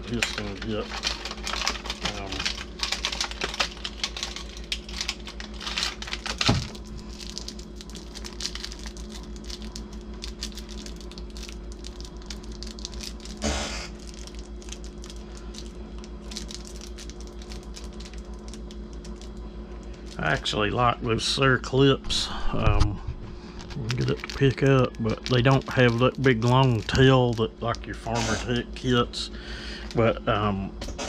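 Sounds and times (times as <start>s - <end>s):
plastic packaging crinkling: 0.0s - 20.7s, 23.3s - 30.0s
steady low hum: 0.0s - 31.0s.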